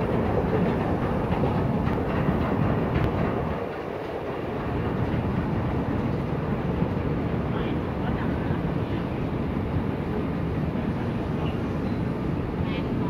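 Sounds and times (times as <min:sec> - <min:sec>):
escalator mechanical rumble: 0:00.0 - 0:13.0.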